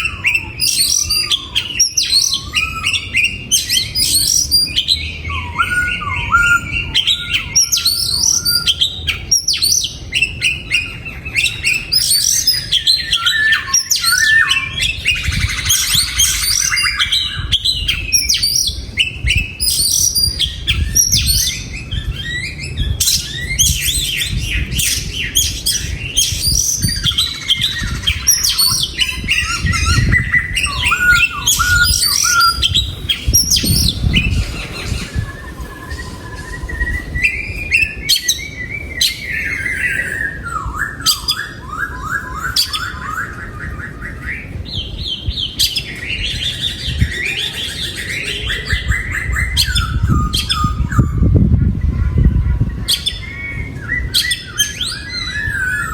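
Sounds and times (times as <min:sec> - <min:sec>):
birds singing whistled phrases: 0:00.0 - 0:55.9.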